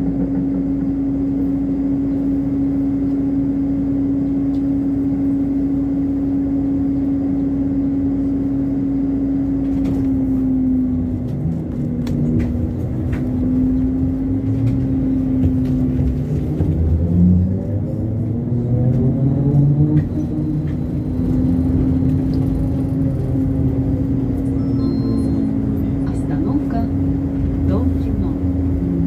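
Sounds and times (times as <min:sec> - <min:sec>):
trolleybus hum: 0:00.0 - 0:29.0.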